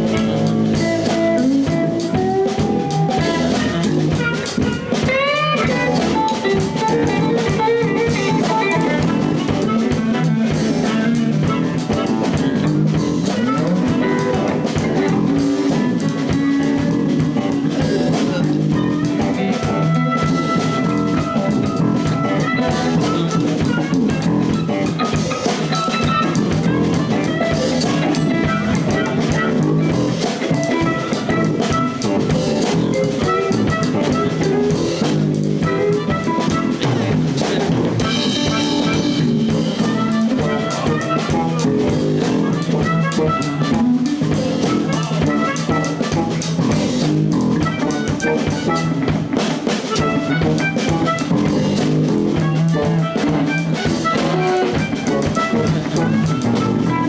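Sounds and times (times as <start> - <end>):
blues band playing: 0.0 - 57.0
drum kit: 0.0 - 57.0
electric guitar: 0.0 - 57.0.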